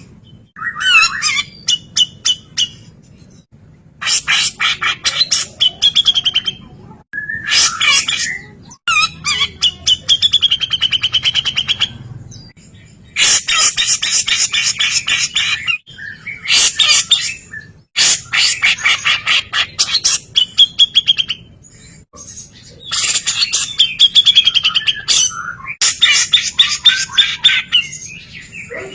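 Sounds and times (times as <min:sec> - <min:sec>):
bird singing rapid notes: 0:00.0 - 0:28.9.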